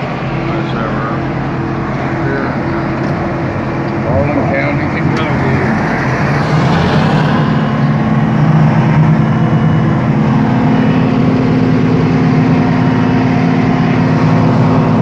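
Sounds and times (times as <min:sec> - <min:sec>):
drilling machine engine running: 0:00.0 - 0:15.0.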